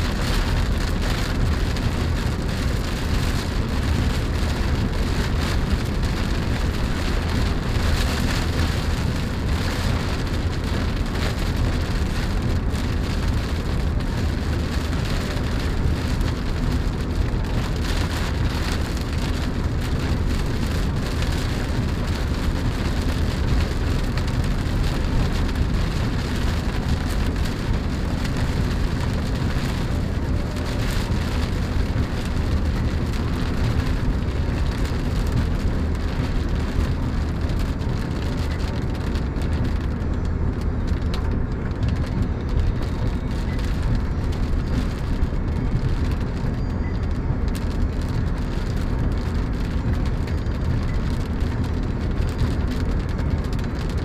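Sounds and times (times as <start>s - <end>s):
car engine hum: 0.0s - 54.0s.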